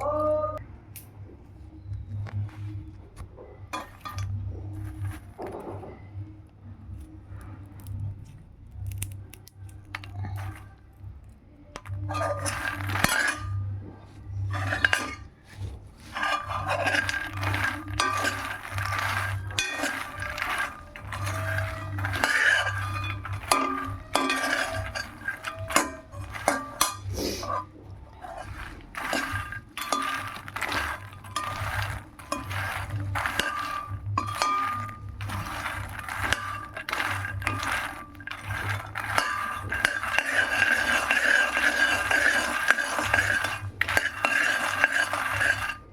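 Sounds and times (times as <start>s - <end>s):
utensil clattering in a pan: 3.7s - 5.9s, 9.9s - 10.6s, 11.8s - 45.9s.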